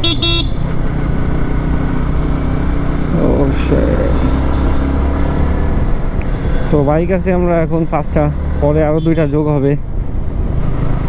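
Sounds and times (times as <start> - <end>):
motorcycle engine hum: 0.0 - 11.0.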